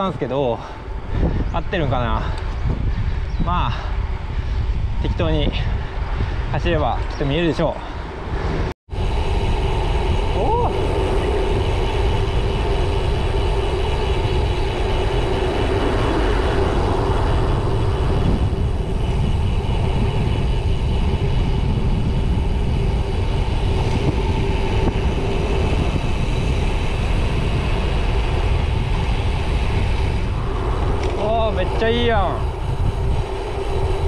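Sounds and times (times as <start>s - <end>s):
tyres humming on road: 0.0s - 34.0s
wind buffeting microphone: 0.0s - 34.0s.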